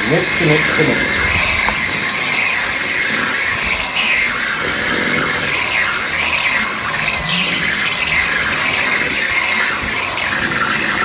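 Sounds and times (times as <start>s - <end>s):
kitchen mixer motor running: 0.0s - 11.0s.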